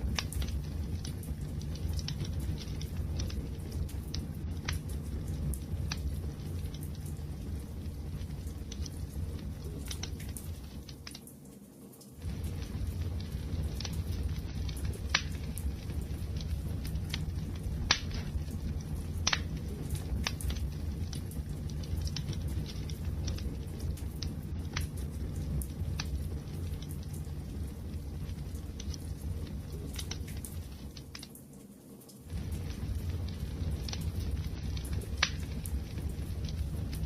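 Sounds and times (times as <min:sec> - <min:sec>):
fire low rumble: 0:00.0 - 0:11.2, 0:12.2 - 0:31.3, 0:32.2 - 0:37.0
fire popping and snapping: 0:00.0 - 0:37.0.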